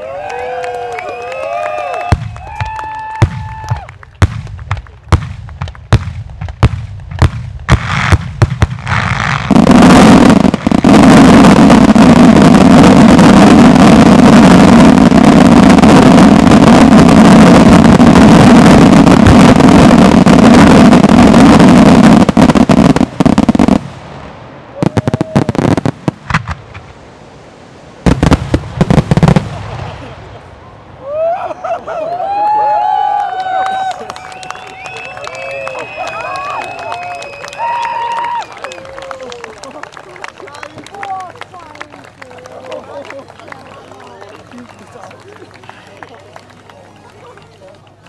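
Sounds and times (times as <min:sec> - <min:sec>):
fireworks bangs and cracks: 0:01.6 - 0:27.2, 0:28.0 - 0:30.5, 0:32.4 - 0:48.0.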